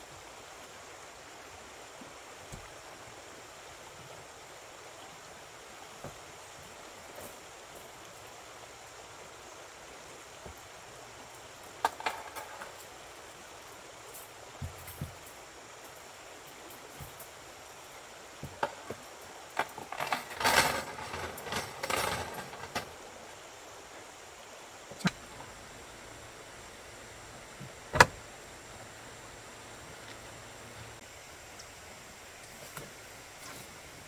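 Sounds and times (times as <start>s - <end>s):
creek rushing: 0.0s - 34.0s.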